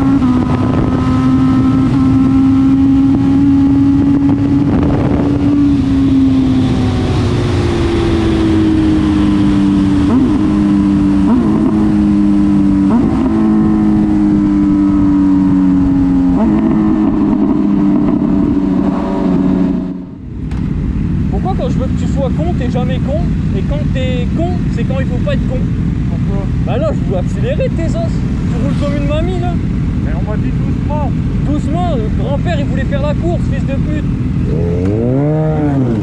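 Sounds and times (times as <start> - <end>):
motorcycle engine cruising: 0.0 - 36.0.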